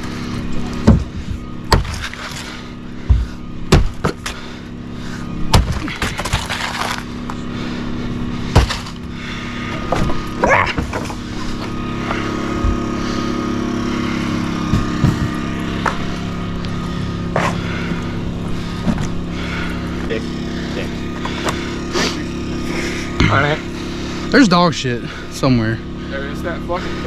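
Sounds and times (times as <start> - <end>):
motor running steadily: 0.0 - 27.0.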